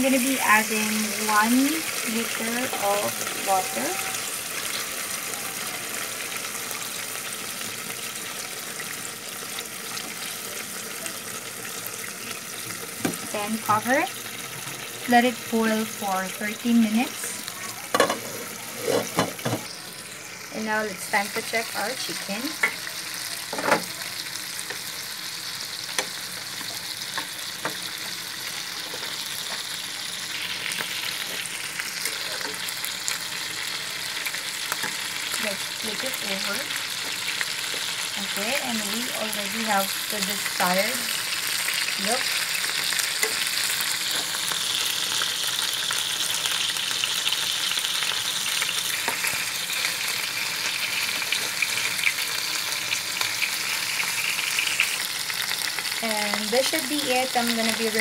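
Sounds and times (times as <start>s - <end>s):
chicken frying in oil: 0.0s - 58.0s.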